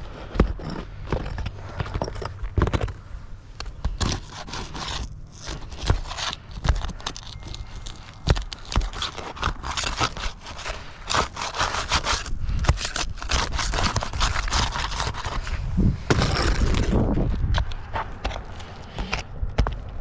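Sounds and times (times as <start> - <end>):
shingles scraping and rustling: 0.0 - 19.9.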